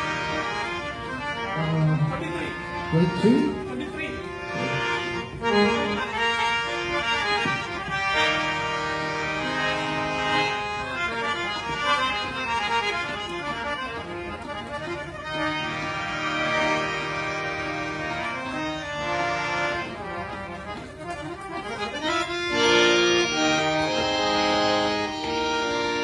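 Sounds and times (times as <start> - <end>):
harmonium playing chords: 0.0 - 26.0.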